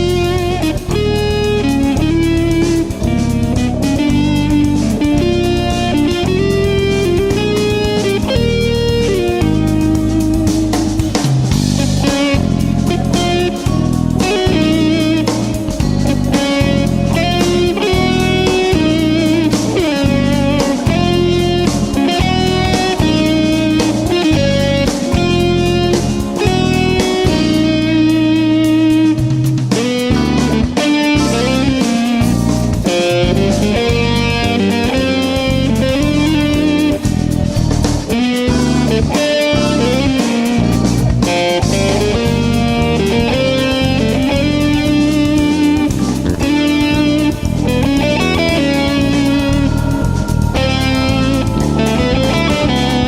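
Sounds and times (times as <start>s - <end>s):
bass line: 0.0s - 53.0s
electric guitar melody: 0.0s - 53.0s
low accompaniment: 0.0s - 53.0s.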